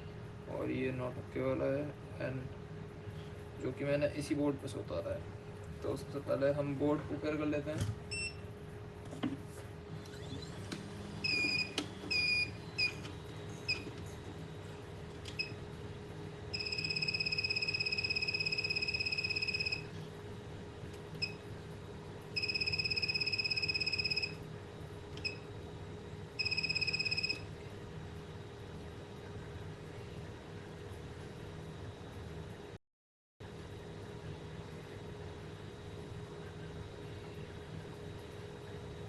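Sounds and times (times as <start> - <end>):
fan hum: 0.0 - 32.8, 33.4 - 39.0.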